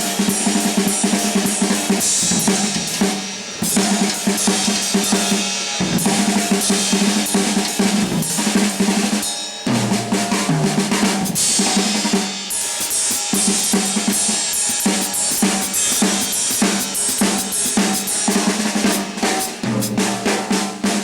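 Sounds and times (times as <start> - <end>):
jazz drum kit playing: 0.0 - 21.0.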